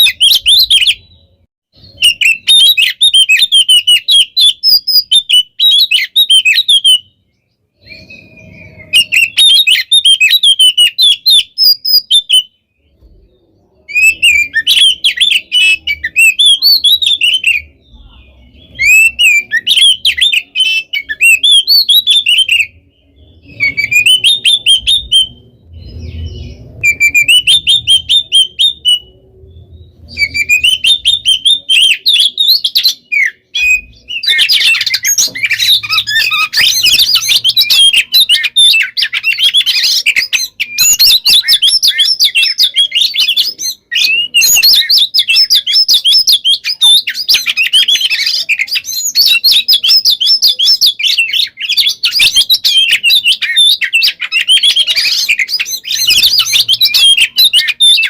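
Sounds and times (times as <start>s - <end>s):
bird singing whistled chattering notes: 1.8s - 58.0s.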